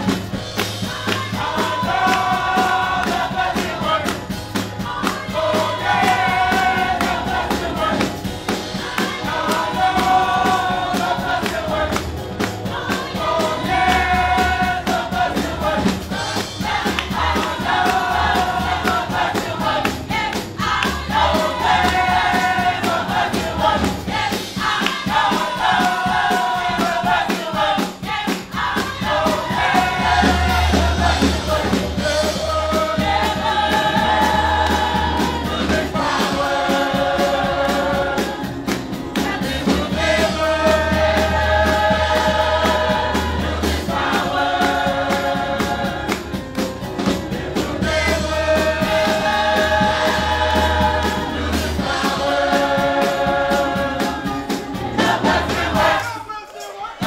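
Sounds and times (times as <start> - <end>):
instrumental backing with bass: 0.0 - 56.2
choir singing in harmony: 0.0 - 57.0.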